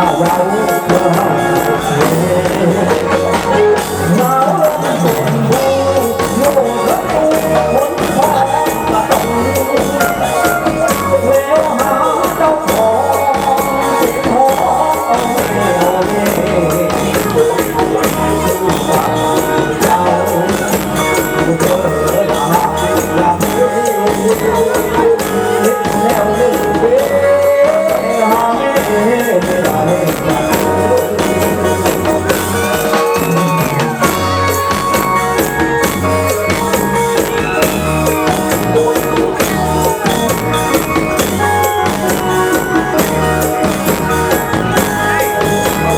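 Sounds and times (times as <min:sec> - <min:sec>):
drum beat: 0:00.0 - 0:45.9
sliding pitch melody: 0:00.0 - 0:45.9.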